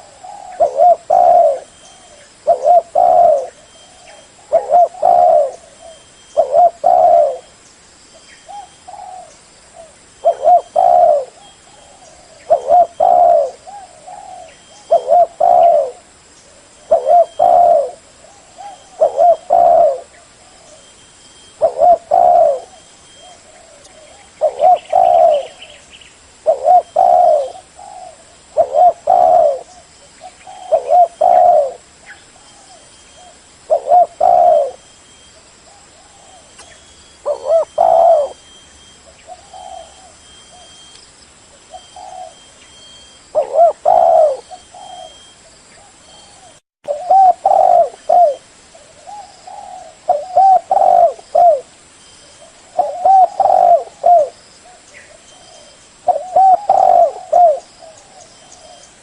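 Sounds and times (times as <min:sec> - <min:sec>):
dove cooing: 0:00.0 - 0:07.5, 0:08.4 - 0:25.8, 0:26.4 - 0:40.9, 0:41.5 - 0:59.0.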